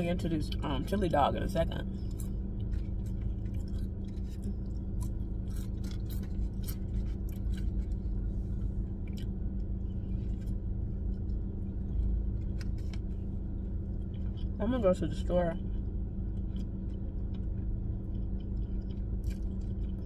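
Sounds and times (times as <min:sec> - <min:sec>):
low car hum: 0:00.0 - 0:20.0
chewing food: 0:01.9 - 0:14.6, 0:15.6 - 0:20.0.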